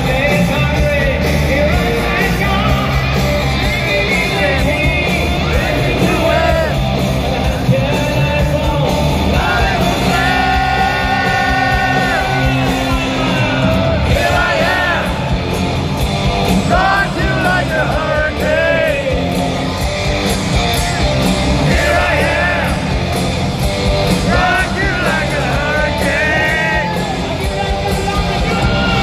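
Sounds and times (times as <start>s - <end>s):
lead vocals: 0.0s - 19.8s, 21.0s - 29.0s
hard rock band playing live: 0.0s - 29.0s.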